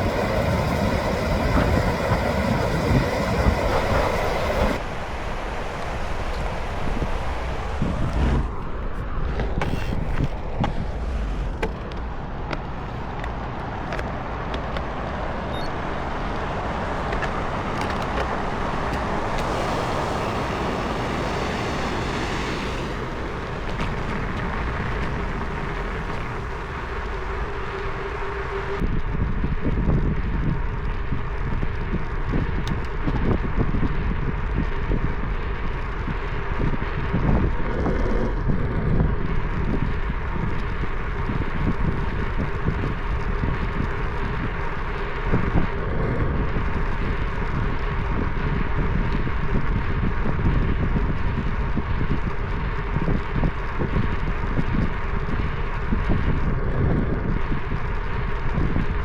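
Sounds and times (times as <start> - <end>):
road and traffic noise: 0.0 - 59.0
wind rumbling on microphone: 0.0 - 59.0.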